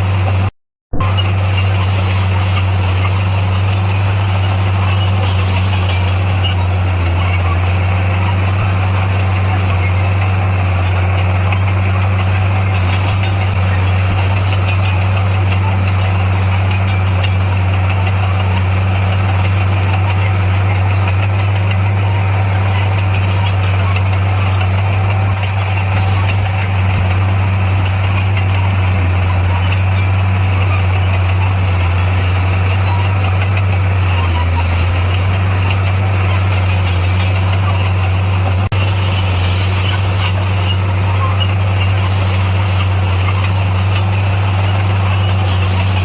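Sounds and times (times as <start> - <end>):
heavy diesel engine droning: 0.0 - 46.0.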